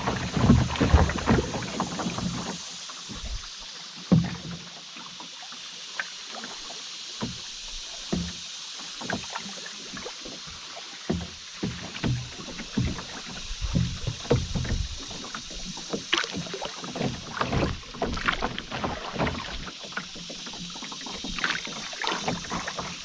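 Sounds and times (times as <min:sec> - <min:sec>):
paddle strokes and knocks on canoe: 0:00.0 - 0:23.0
water hissing: 0:00.0 - 0:23.0.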